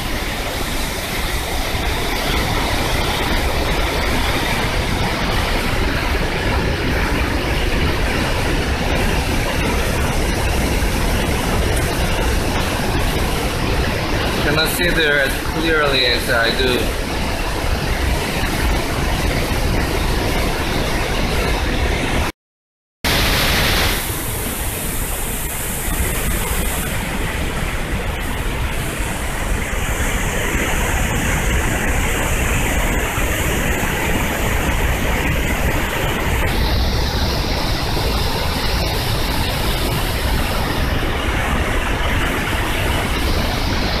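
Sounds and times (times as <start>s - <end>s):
waterfall roaring: 0.0s - 22.3s, 23.1s - 44.0s.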